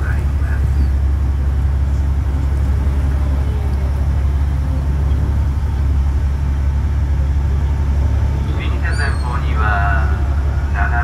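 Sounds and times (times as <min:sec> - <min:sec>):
boat engine low drone: 0:00.0 - 0:11.0.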